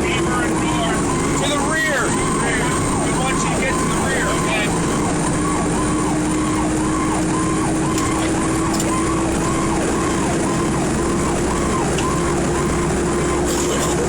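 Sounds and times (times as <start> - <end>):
fire engine siren yelping: 0.0 - 14.0
road noise: 0.0 - 14.0
truck engine: 0.0 - 14.0.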